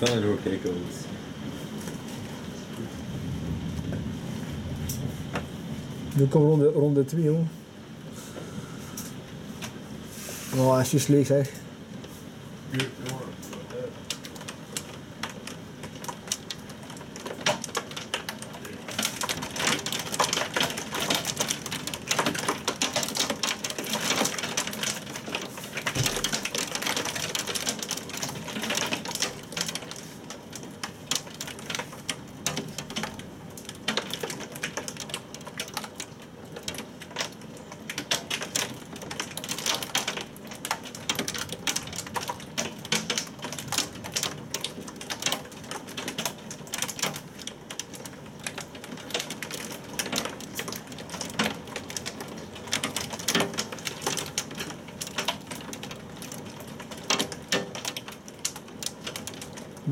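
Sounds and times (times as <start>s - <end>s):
rain pelting a hard surface: 0.0s - 59.9s.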